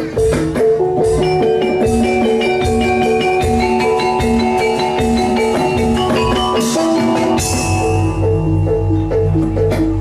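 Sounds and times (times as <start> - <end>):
drum strokes: 0.0 - 10.0
metallophone melody: 0.0 - 10.0.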